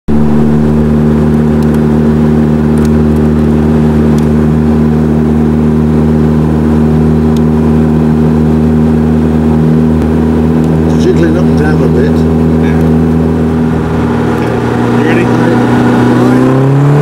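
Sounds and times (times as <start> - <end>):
car engine running loud: 0.1 - 17.0.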